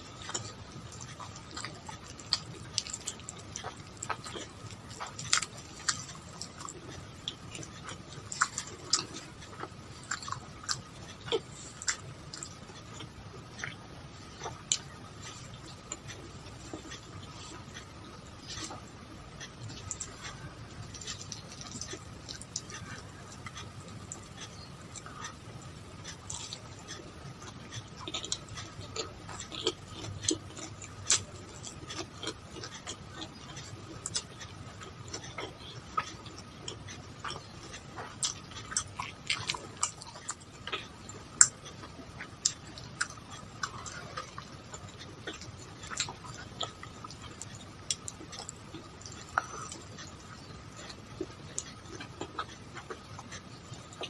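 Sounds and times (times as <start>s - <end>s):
faint steady hum: 0.0s - 54.0s
wet mouth clicks and chewing: 0.0s - 54.0s.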